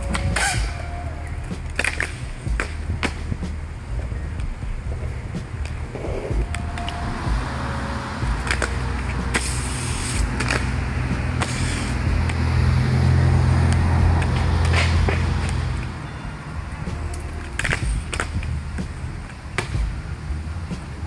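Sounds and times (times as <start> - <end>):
skates clacking on ledge: 0.0 - 0.8, 1.4 - 7.1, 8.3 - 12.4, 13.6 - 16.1, 16.8 - 21.0
skates scraping concrete ledge: 0.0 - 7.2, 8.3 - 12.1, 14.2 - 16.1, 16.7 - 21.0
skate wheels rolling on concrete: 0.0 - 21.0.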